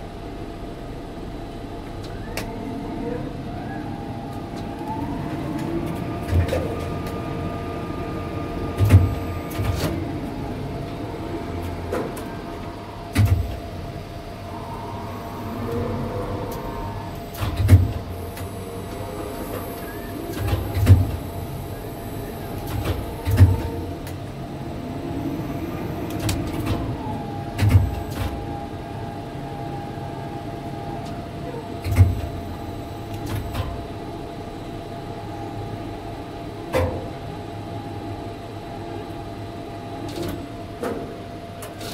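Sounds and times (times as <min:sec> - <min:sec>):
crane motor hum and whine: 0:00.0 - 0:41.9.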